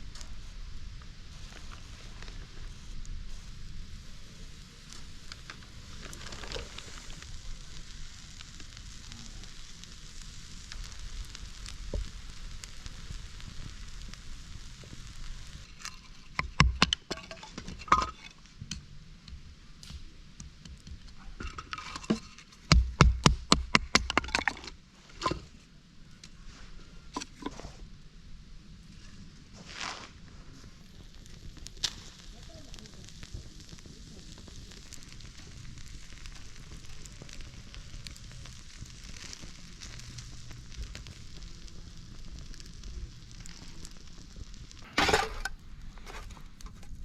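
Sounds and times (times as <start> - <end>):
fire sizzling and crackling: 0.0 - 47.0.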